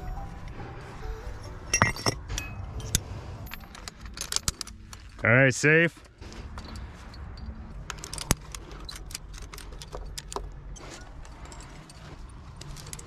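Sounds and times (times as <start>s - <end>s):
metal climbing gear clinking: 1.4s - 13.0s.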